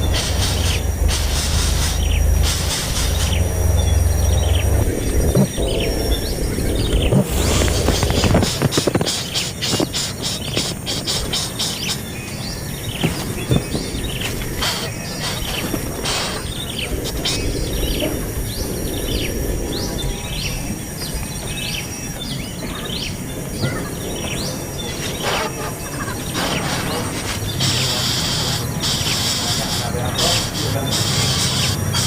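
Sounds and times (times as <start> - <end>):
nestlings chirping: 0.0 - 32.0.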